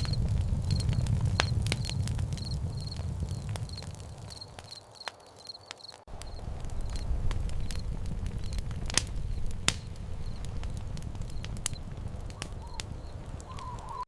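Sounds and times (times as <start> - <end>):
low rumble: 0.0 - 4.6, 6.1 - 14.0
campfire crackling and popping: 0.0 - 14.0
crickets chirping: 0.0 - 14.0.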